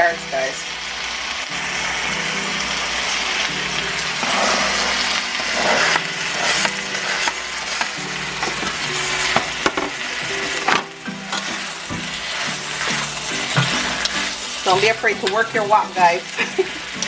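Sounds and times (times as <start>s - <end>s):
stir-fry sizzling in a wok: 0.0s - 17.0s.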